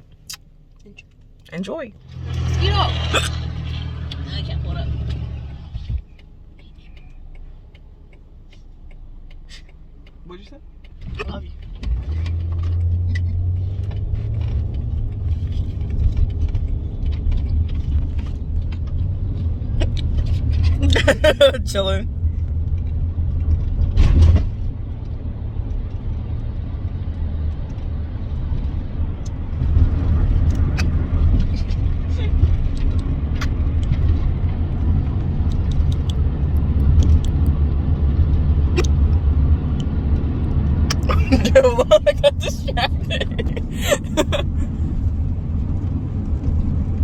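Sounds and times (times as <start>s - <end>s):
car rumble inside cabin: 0.0s - 47.0s.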